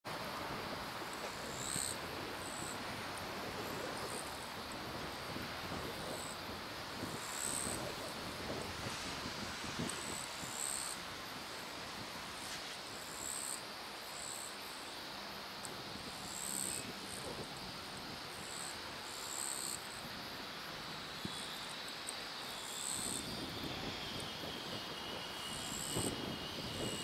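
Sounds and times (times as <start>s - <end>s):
insects chirping: 0.1s - 27.0s
steady background hiss: 0.1s - 27.0s.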